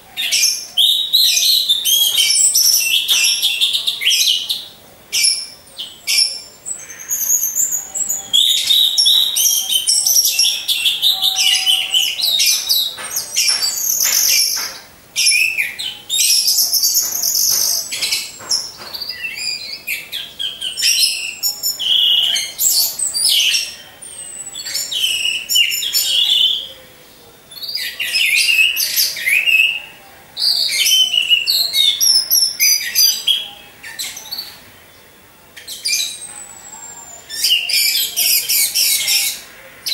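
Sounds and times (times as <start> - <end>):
thrushes singing: 0.0 - 39.9.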